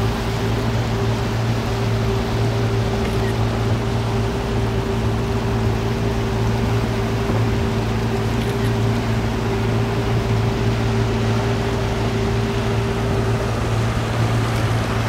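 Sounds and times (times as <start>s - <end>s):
boat motor droning: 0.0s - 15.0s
rushing water and wind: 0.0s - 15.0s.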